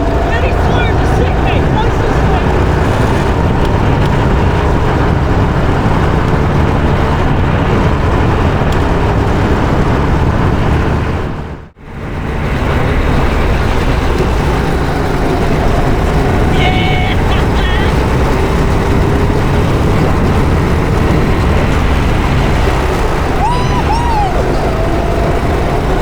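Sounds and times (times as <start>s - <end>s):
vehicle engine and wind rush: 0.0s - 26.0s.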